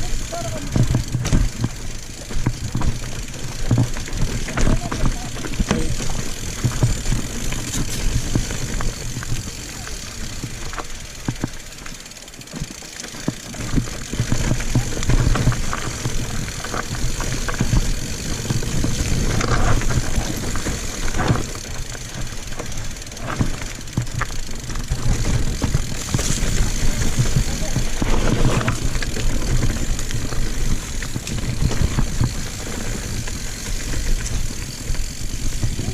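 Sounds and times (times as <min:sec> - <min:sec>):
bike knocking and rattling: 0:00.0 - 0:35.9
bike riding rumble: 0:00.0 - 0:35.9.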